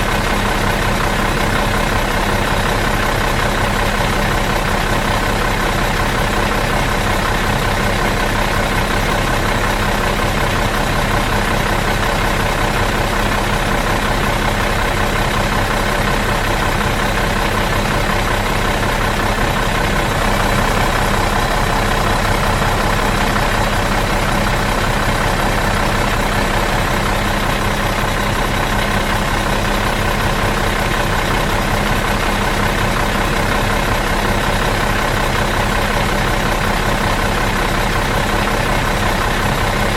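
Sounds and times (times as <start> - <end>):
bus diesel engine idling: 0.0 - 39.9.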